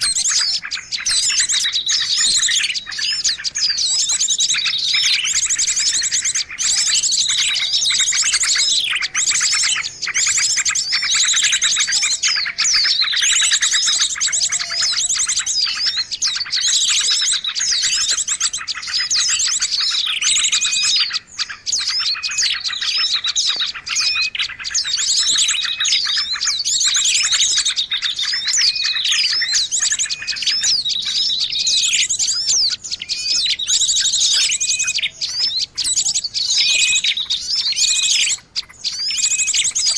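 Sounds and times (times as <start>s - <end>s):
songbird chirping and trills: 0.0s - 39.9s.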